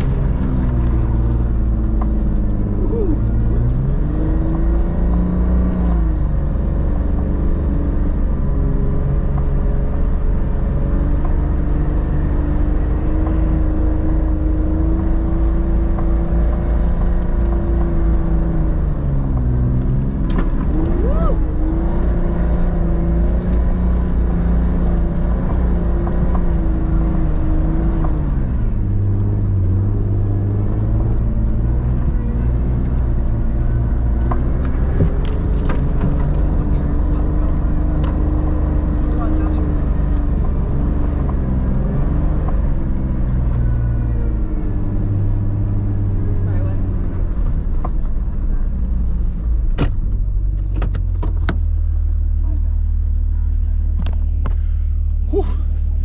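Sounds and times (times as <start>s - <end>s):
off-road vehicle engine under load: 0.0s - 56.0s.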